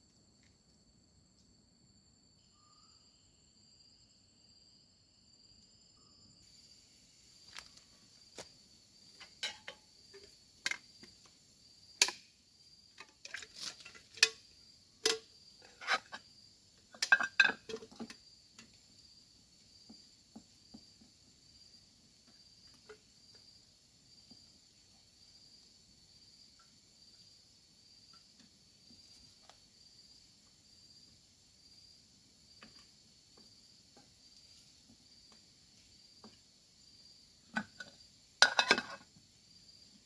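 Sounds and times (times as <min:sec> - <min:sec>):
crickets chirring: 0:00.0 - 0:40.0.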